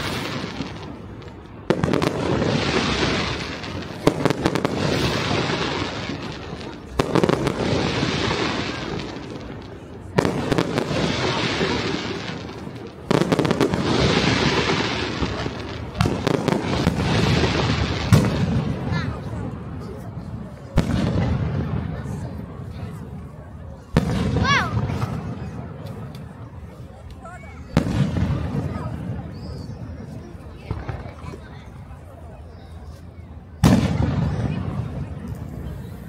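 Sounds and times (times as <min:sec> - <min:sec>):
firework crackling: 0:00.0 - 0:32.1.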